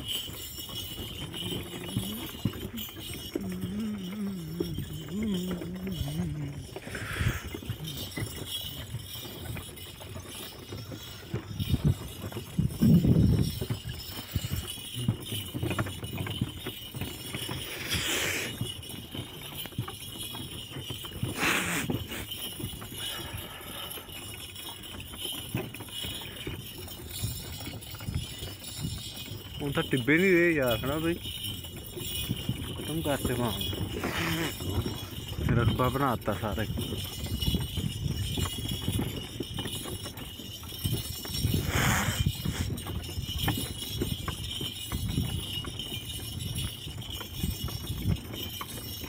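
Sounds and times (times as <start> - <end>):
chains clinking: 0.0 - 49.0
wooden cart rattling: 0.0 - 49.0.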